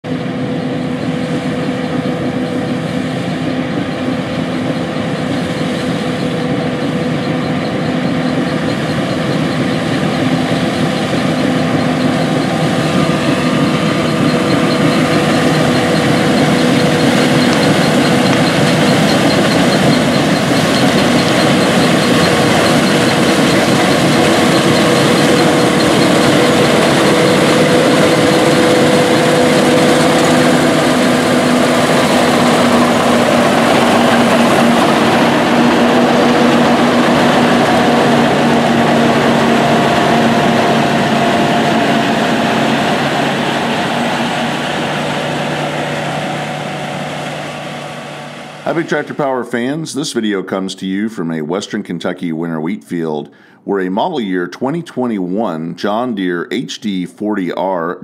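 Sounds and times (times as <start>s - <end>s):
combine harvester engine drone: 0.0s - 51.6s.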